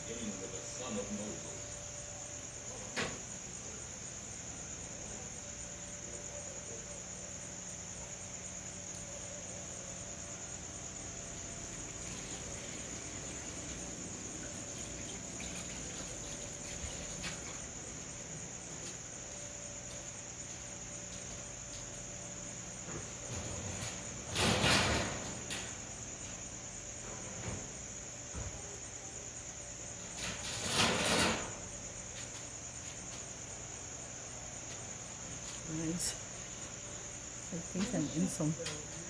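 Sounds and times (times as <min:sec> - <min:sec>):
crickets trilling: 0:00.0 - 0:39.0
faint low hum: 0:00.0 - 0:39.0.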